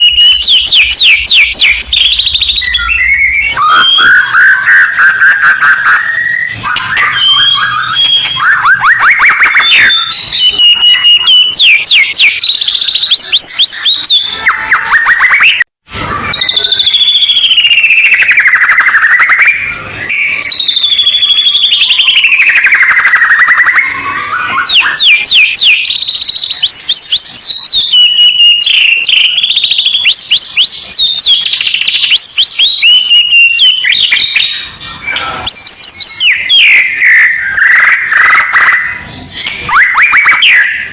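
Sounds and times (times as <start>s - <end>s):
recorded songbird song: 0.0s - 40.9s.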